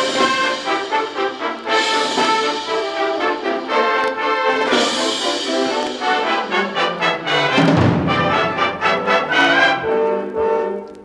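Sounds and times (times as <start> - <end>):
wind band playing: 0.0 - 11.0.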